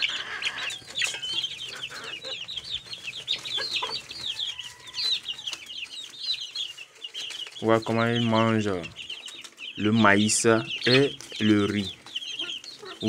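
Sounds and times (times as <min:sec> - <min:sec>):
chicks peeping and clucking: 0:00.0 - 0:13.0.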